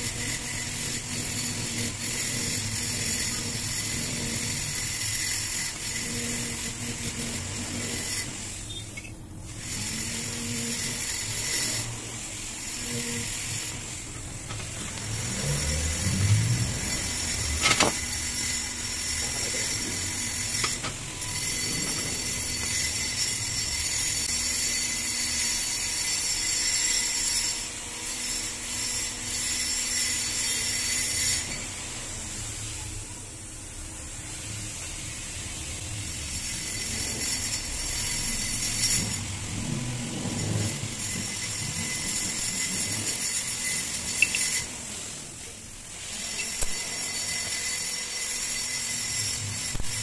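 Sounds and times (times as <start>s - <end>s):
welding torch flame hissing: 0.0s - 50.0s.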